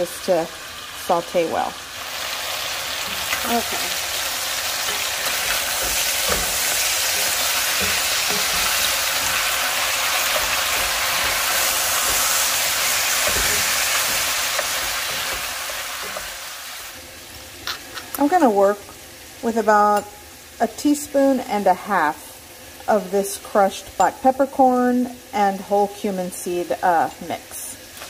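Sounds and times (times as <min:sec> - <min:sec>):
beef sizzling in hot oil: 0:00.0 - 0:28.0.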